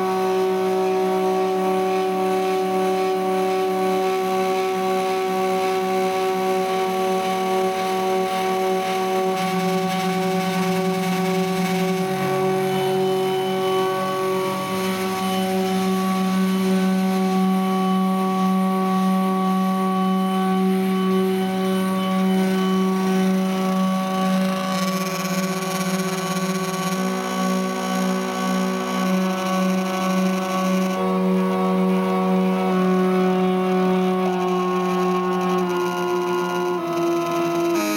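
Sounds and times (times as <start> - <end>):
stepper motors whining: 0.0 - 37.9.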